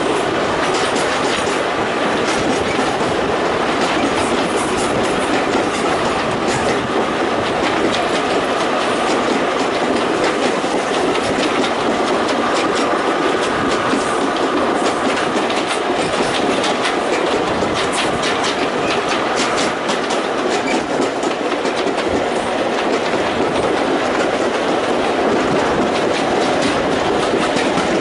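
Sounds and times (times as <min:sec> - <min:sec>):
train rolling on rails: 0:00.0 - 0:28.0
wheels clicking over rail joints: 0:00.0 - 0:28.0.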